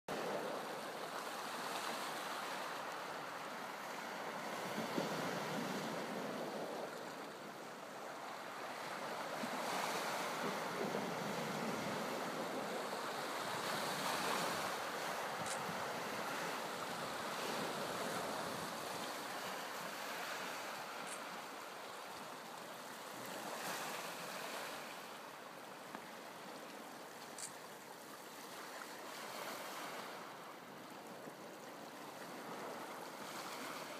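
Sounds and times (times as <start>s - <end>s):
waves washing against shore: 0.1s - 33.9s.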